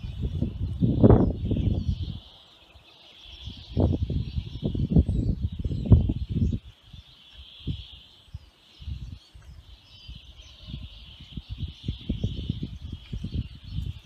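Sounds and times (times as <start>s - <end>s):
wind rumble on microphone: 0.0s - 2.4s, 3.2s - 14.0s.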